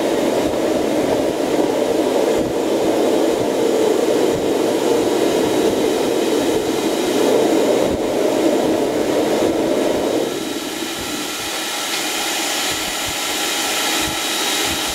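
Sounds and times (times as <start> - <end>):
air hissing through chamber: 0.0 - 14.9.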